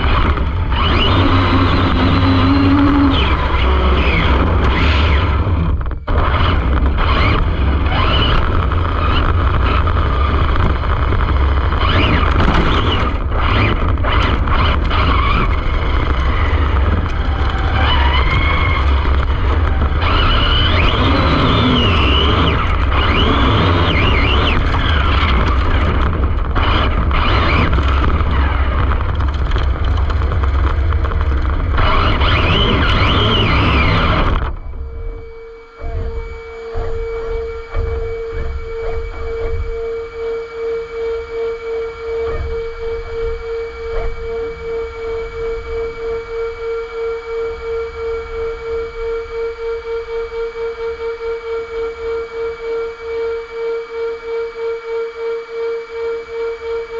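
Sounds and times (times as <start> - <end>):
low rumble of tyres and wind: 0.0 - 50.4
electric motor whine: 0.0 - 56.9.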